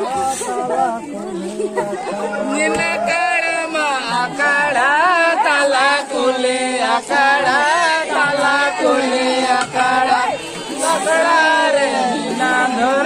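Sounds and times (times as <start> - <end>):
men singing a folk song: 0.0 - 13.0.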